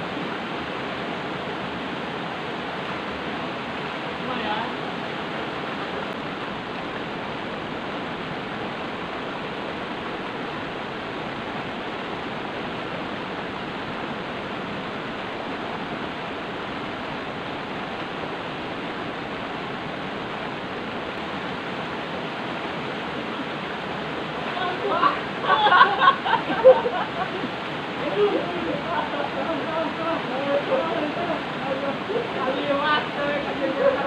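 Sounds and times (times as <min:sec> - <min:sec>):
river cascade rushing over boulders: 0:00.0 - 0:34.0.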